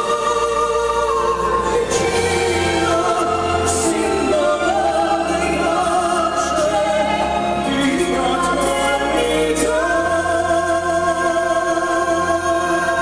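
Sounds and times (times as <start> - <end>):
man singing operatic ballad: 0.0 - 13.0
orchestral backing: 0.0 - 13.0.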